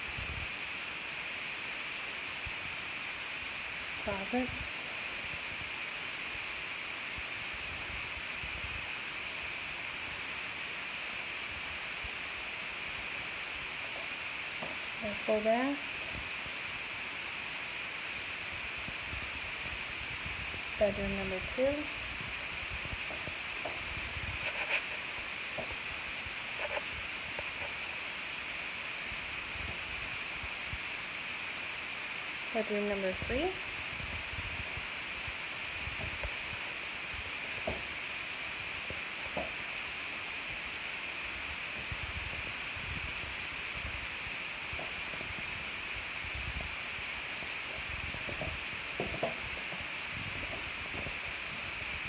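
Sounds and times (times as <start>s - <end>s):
steady high hiss: 0.0s - 52.0s.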